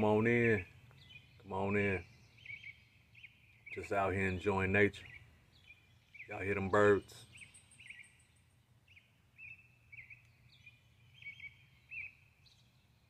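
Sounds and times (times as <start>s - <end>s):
songbird chirps: 0.0s - 13.0s
thin high bird trill: 1.0s - 12.2s.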